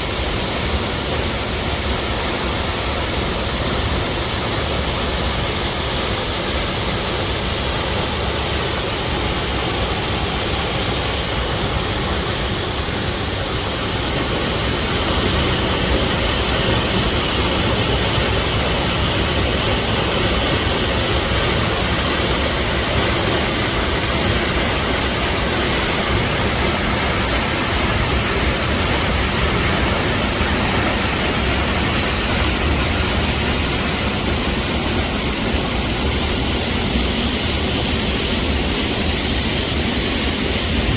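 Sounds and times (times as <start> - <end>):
steady rushing roar: 0.0 - 40.9.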